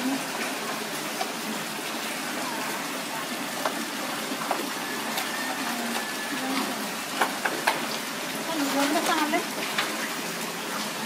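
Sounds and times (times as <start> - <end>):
running water: 0.0 - 11.0.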